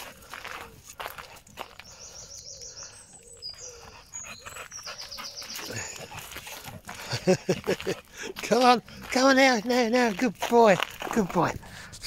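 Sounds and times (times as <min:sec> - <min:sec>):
songbird chirping: 0:00.0 - 0:11.5.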